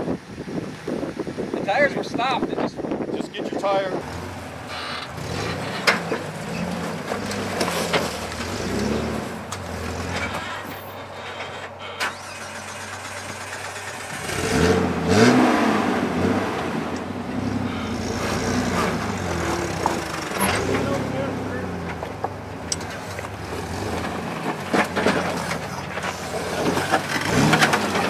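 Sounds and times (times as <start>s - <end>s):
engine revving: 3.9s - 10.8s, 11.4s - 28.0s.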